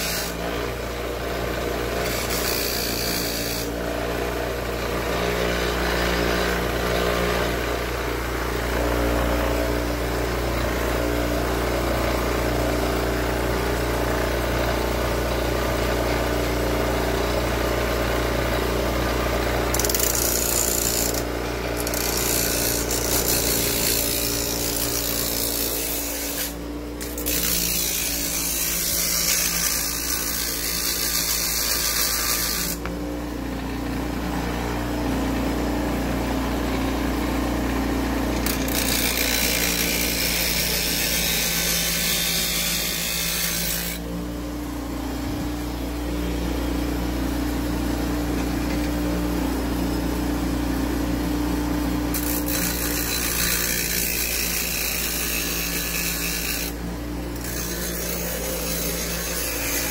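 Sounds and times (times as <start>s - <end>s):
loud abrasive grinding: 0.0s - 33.9s, 37.4s - 44.1s, 52.1s - 59.9s
power tool motor running: 0.0s - 59.9s.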